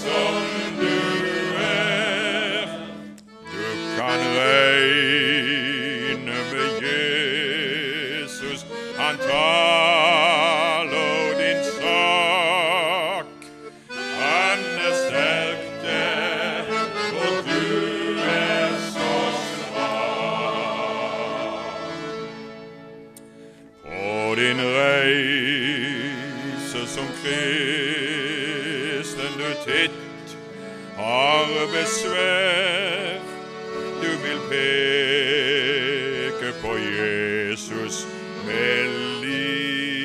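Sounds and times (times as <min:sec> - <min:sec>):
male choir singing gospel: 0:00.0 - 0:13.3, 0:13.9 - 0:22.3, 0:23.8 - 0:30.0, 0:31.0 - 0:40.0
accordion: 0:00.0 - 0:40.0.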